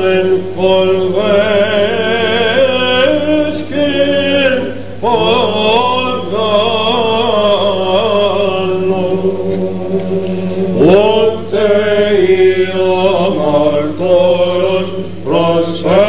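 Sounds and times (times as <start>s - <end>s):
low vocal drone: 0.0s - 16.0s
man chanting a hymn: 0.0s - 16.0s.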